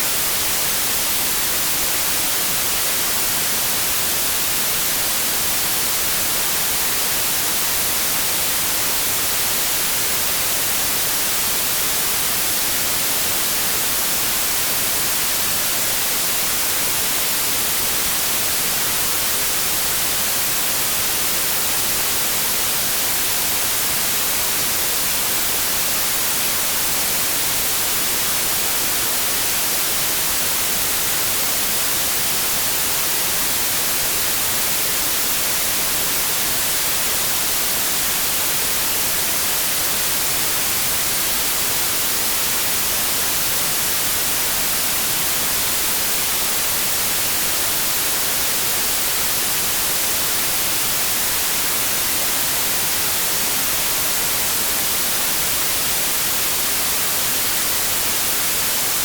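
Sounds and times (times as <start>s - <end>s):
white noise static hiss: 0.0s - 59.0s.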